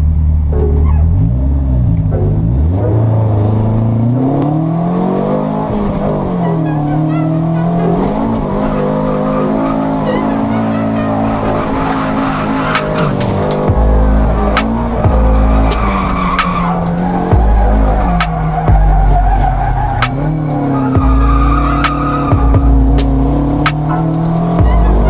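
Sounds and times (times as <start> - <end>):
car engine revving: 0.0 - 25.0
tyres skidding: 0.0 - 25.0.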